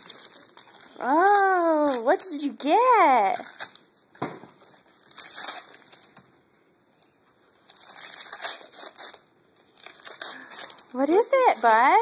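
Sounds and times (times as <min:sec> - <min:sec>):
wrapping paper rustling: 0:00.0 - 0:12.0.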